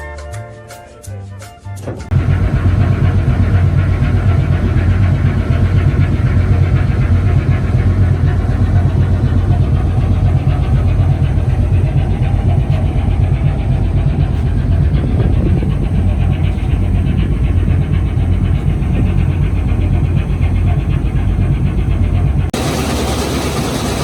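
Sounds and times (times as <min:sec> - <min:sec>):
diesel engine droning and clattering: 0:02.1 - 0:24.0.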